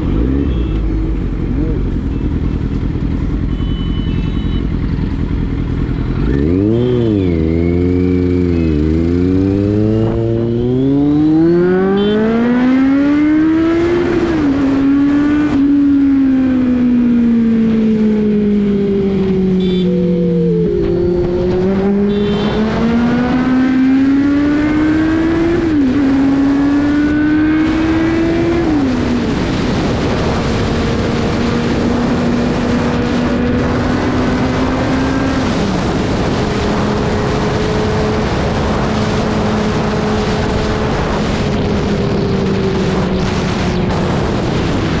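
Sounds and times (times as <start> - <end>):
motorcycle engine accelerating: 0.0 - 45.0
wind and road noise: 0.0 - 45.0.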